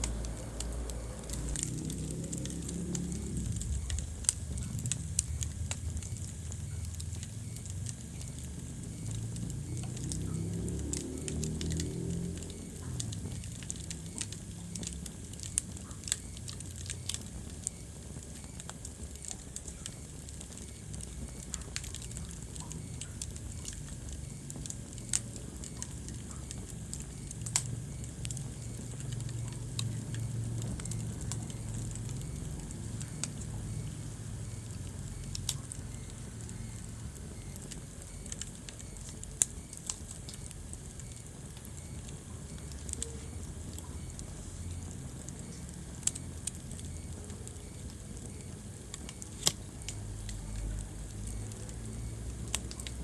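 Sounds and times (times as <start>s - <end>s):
low rumble of flames: 0.0s - 53.0s
wood fire pops and snaps: 0.0s - 53.0s.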